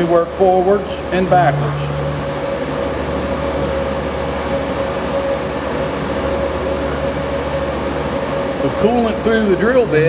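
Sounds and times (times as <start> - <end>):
low hum: 0.0 - 8.2
milling machine drilling whine: 0.0 - 10.0.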